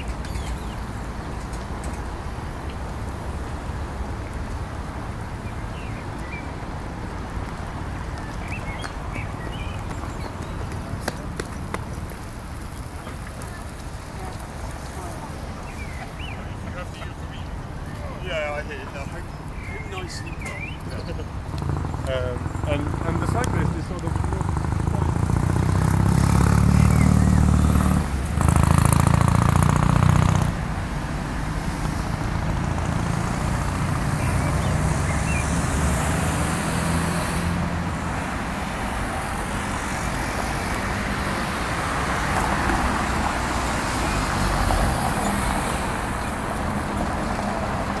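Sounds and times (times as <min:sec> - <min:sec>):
nearby vehicle low rumble: 0:00.0 - 0:40.6
city traffic passing: 0:00.0 - 0:48.0.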